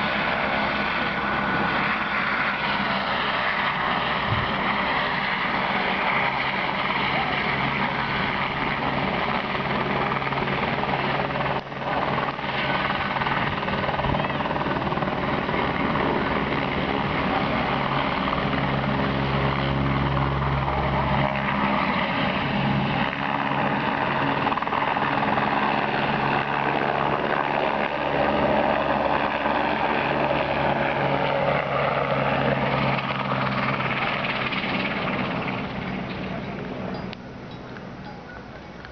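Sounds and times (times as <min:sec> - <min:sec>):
helicopter rotors and engine: 0:00.0 - 0:38.9.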